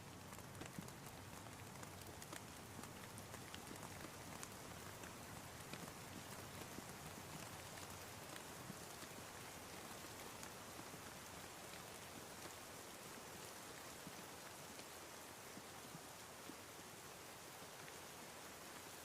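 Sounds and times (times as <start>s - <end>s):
soft rain falling: 0.0s - 19.0s.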